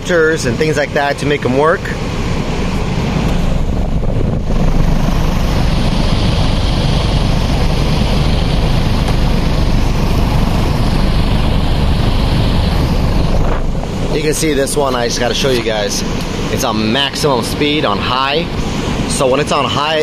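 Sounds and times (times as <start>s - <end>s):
wind buffeting microphone: 0.6s - 20.0s
drum fan air rush: 1.9s - 19.8s.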